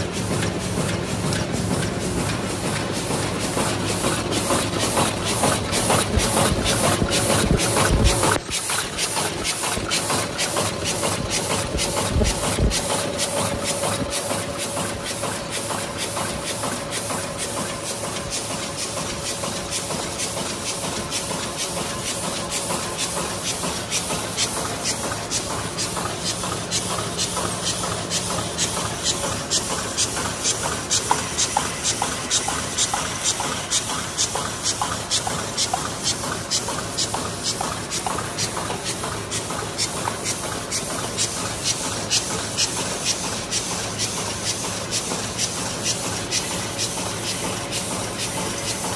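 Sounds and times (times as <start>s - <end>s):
machine clacking rhythmically: 0.0s - 48.9s.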